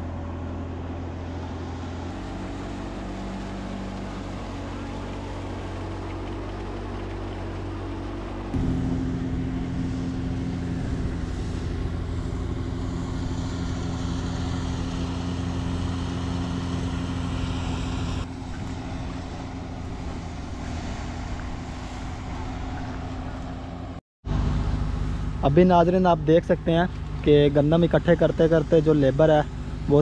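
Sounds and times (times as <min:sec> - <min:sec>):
engine droning steadily: 0:00.0 - 0:30.0.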